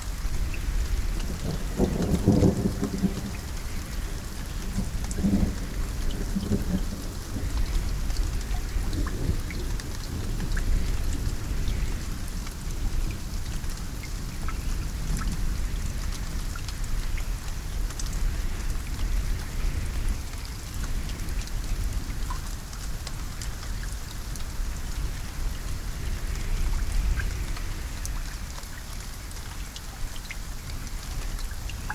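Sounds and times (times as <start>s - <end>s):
low rumble of thunder: 0.0s - 31.9s
rain drops ticking on surface: 0.0s - 31.9s.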